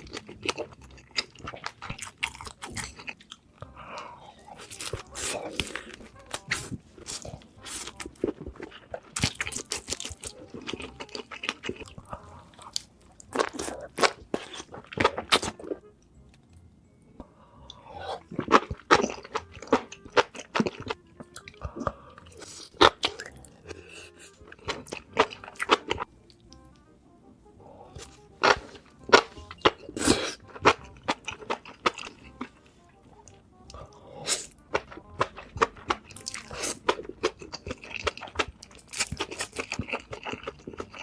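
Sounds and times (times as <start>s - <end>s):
crunchy food chewing: 0.0s - 15.9s, 18.0s - 26.6s, 28.0s - 41.0s
background music: 0.0s - 41.0s.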